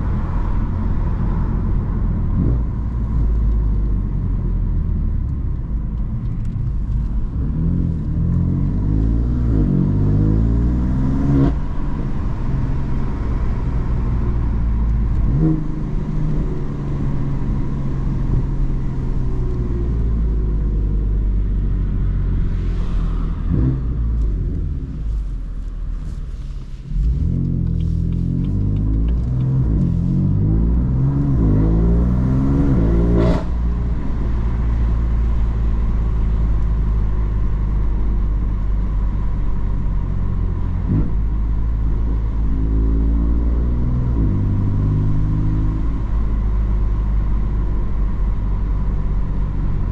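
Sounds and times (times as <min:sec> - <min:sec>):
car engine accelerating through gears: 0:00.0 - 0:49.9.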